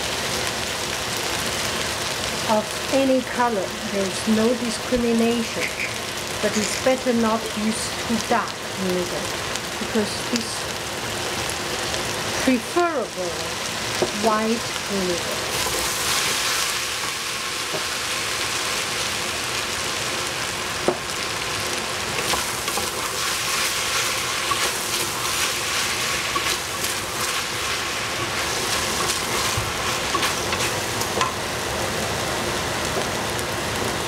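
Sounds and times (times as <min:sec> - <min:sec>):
vegetables sizzling in a pot: 0:00.0 - 0:34.0.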